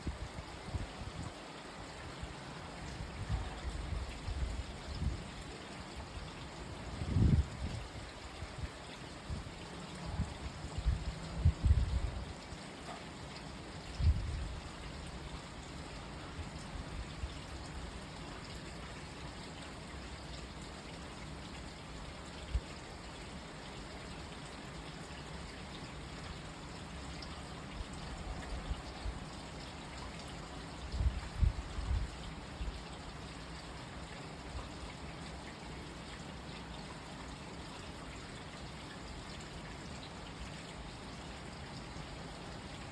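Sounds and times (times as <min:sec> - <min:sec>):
water trickling: 0:00.0 - 0:42.9
rain falling: 0:00.2 - 0:42.9.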